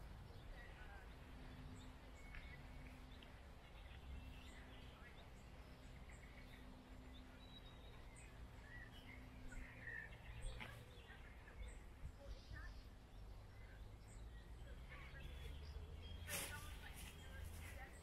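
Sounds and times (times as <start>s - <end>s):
faint bird chirps: 0.0s - 18.0s
low background rumble and hum: 0.0s - 18.0s.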